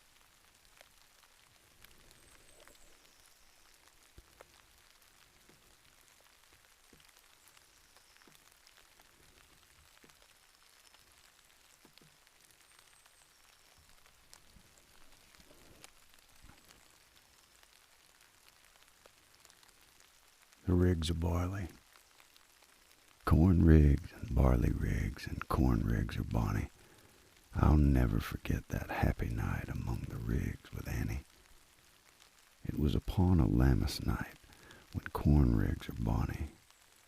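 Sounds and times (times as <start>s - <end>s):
light drizzle: 0.0s - 37.0s.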